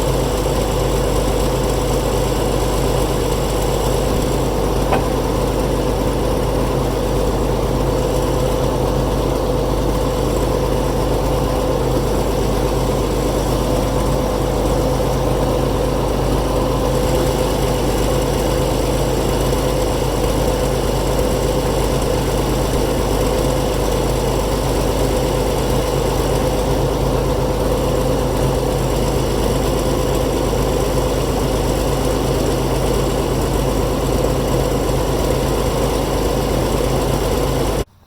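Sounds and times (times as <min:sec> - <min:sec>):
crawler dozer engine idling: 0:00.0 - 0:38.0.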